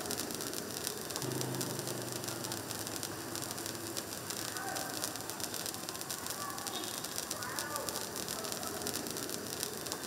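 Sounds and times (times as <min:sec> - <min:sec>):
firework fountain hissing: 0:00.0 - 0:10.0.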